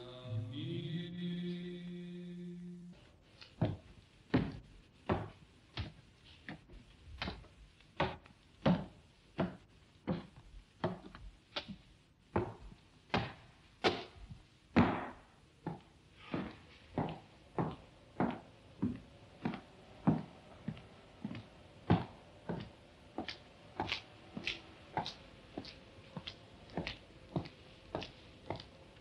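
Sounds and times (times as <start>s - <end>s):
footsteps echoing on stone: 3.4s - 29.0s.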